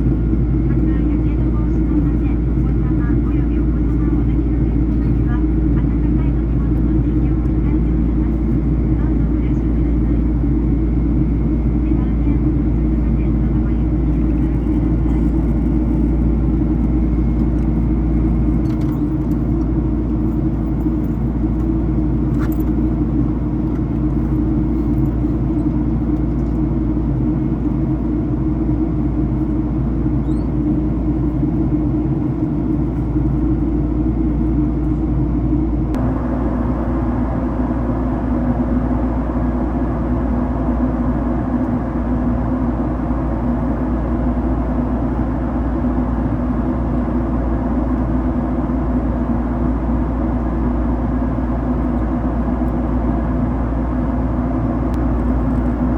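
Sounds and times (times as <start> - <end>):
jet engine drone in cabin: 0.0 - 55.9.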